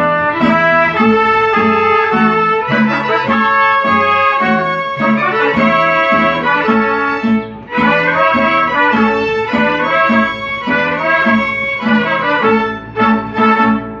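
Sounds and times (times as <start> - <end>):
mariachi band playing a march: 0.0 - 14.0.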